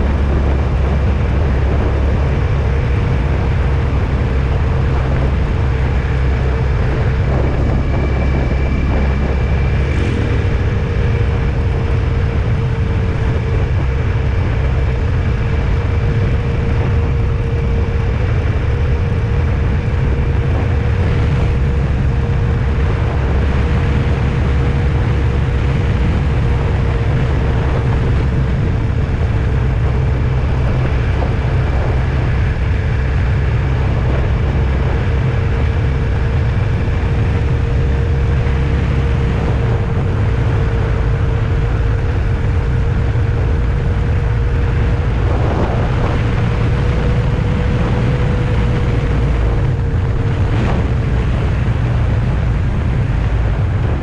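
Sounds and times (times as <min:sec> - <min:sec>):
faint constant hum: 0:00.0 - 0:54.0
road and engine rumble: 0:00.0 - 0:54.0.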